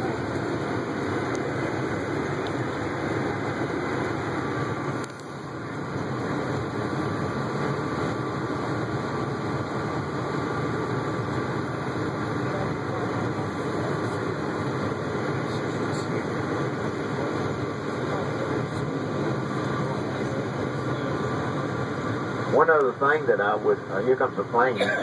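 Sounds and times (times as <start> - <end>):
passenger train running: 0.0 - 25.0.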